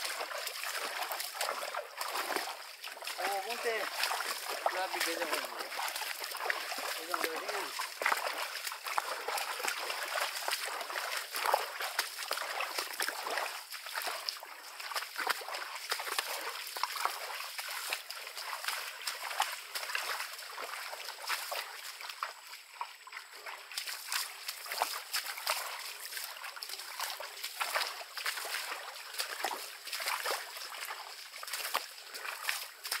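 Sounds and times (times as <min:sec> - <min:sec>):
bare feet splashing through mud: 0:00.0 - 0:33.0.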